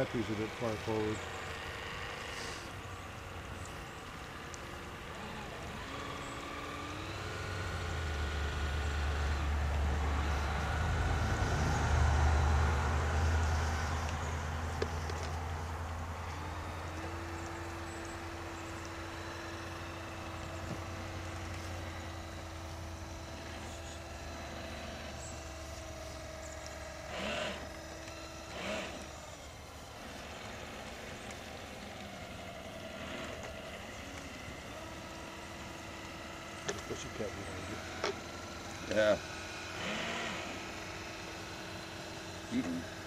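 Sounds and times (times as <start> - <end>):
low hum: 0.0 - 43.0
model boat electric motor whine: 0.0 - 43.0.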